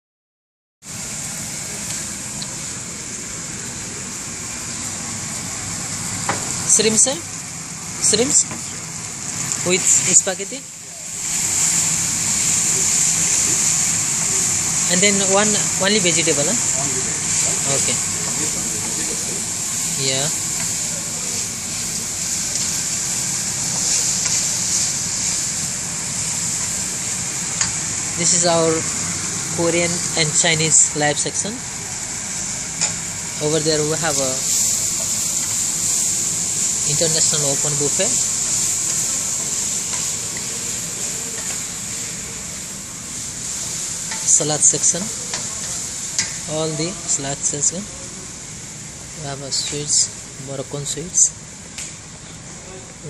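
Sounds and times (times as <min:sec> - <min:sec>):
shrimp sizzling in a frying pan: 0:00.8 - 0:52.2.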